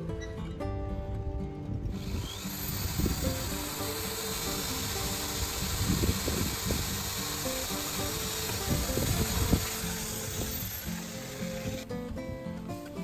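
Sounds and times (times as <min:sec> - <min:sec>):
background music melody: 0:00.0 - 0:13.0.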